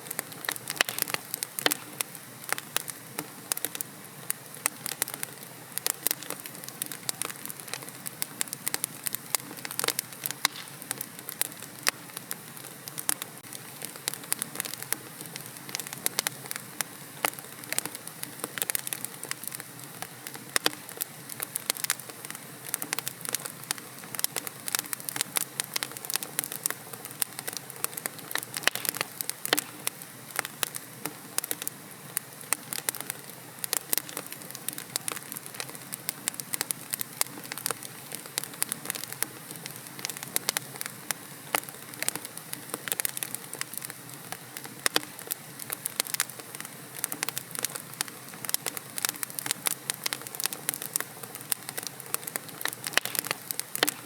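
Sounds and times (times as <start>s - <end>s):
fire hissing: 0.0s - 54.0s
logs crackling in a fireplace: 0.0s - 54.0s.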